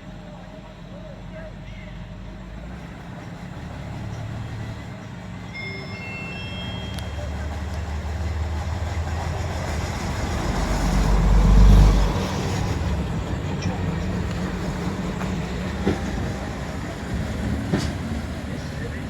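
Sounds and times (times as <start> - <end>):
railbus diesel engine running: 0.0 - 19.0.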